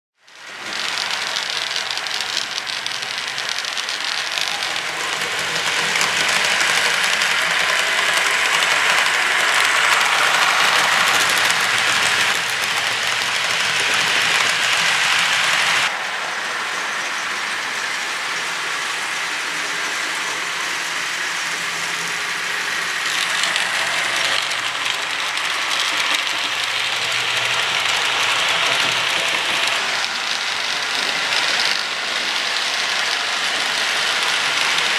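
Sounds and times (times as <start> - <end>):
model train wheels clattering: 0.3 - 16.0, 16.6 - 34.9.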